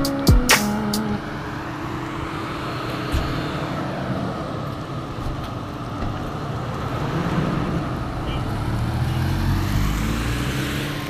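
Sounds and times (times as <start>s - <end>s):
vehicles rolling on concrete: 0.0s - 11.0s.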